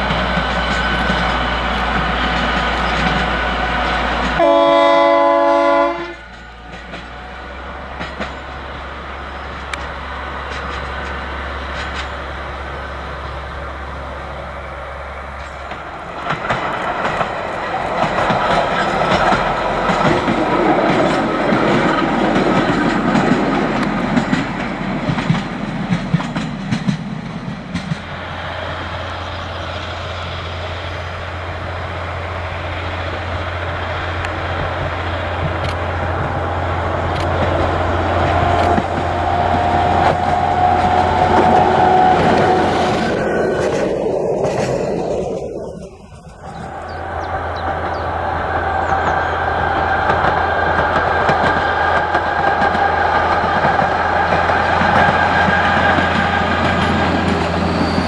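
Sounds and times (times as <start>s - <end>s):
wheels clicking over rail joints: 0.0s - 5.3s, 6.0s - 31.4s, 32.3s - 58.0s
diesel train engine: 0.0s - 58.0s.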